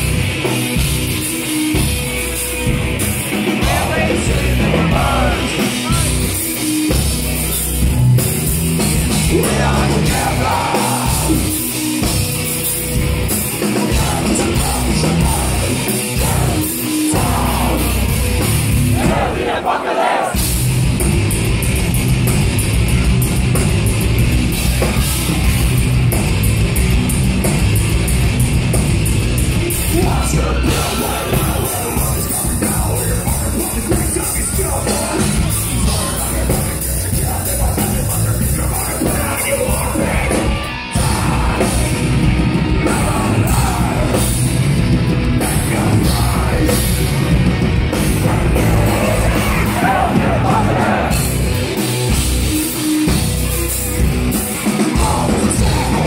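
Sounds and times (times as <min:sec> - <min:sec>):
fast drumming: 0:00.0 - 0:56.0
heavy metal band playing live: 0:00.0 - 0:56.0.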